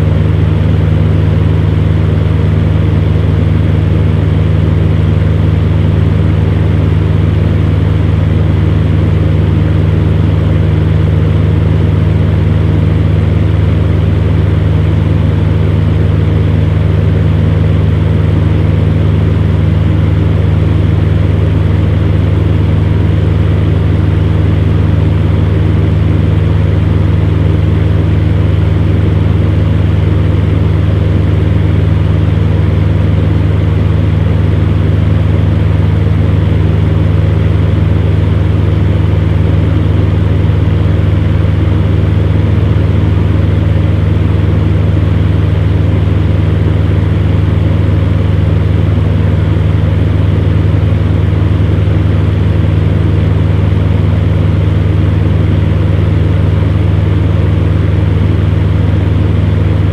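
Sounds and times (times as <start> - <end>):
air rushing from fan: 0.0 - 59.9
fan heater hum: 0.0 - 59.9.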